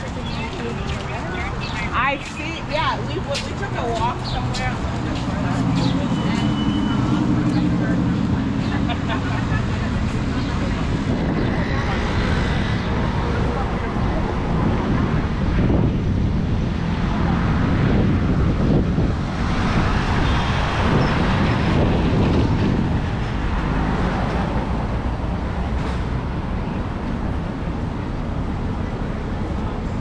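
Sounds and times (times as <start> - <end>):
road traffic passing: 0.0 - 30.0
wind rumble on microphone: 0.0 - 30.0.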